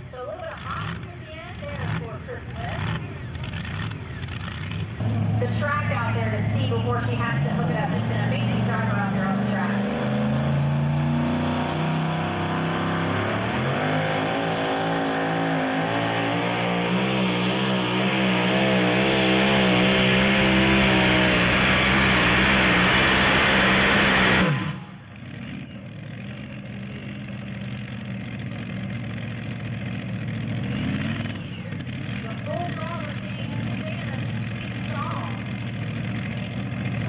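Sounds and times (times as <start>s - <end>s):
truck engine at full throttle: 0.0s - 37.0s.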